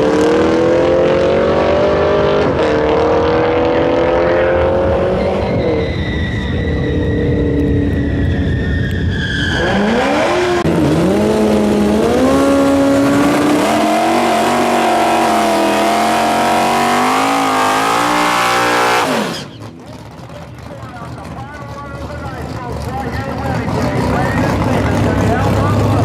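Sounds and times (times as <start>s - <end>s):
car engine revving at full throttle: 0.0s - 5.8s, 9.5s - 26.0s.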